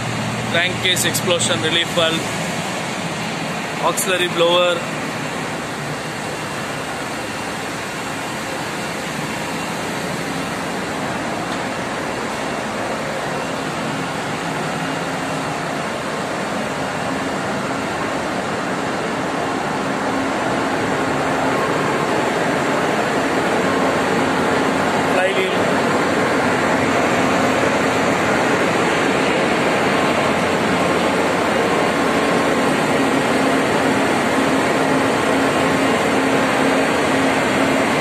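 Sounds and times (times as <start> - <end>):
engine room machinery: 0.0 - 38.0.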